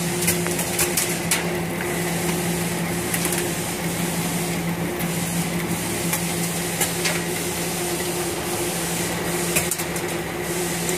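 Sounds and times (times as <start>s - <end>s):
machine hum and hiss: 0.0s - 10.9s.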